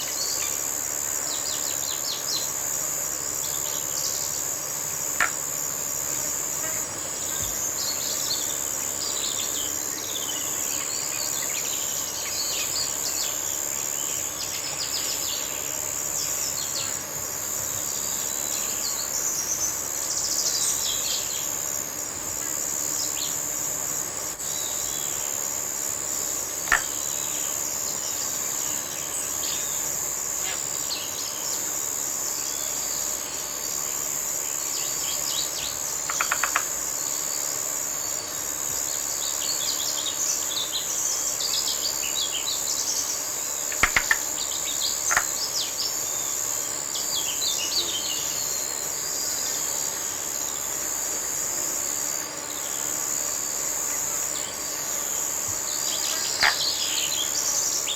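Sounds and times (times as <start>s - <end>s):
high-pitched insect drone: 0.0s - 57.9s.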